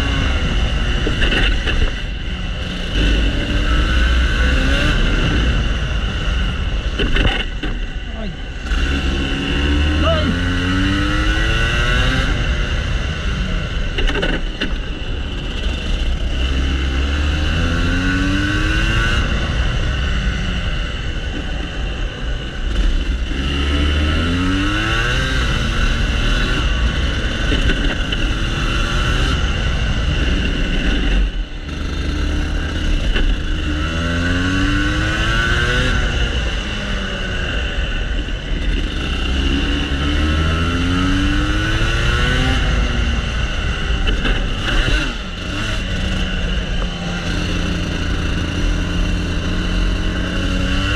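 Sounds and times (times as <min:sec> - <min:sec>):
two-stroke kart engine revving: 0:00.0 - 0:50.9.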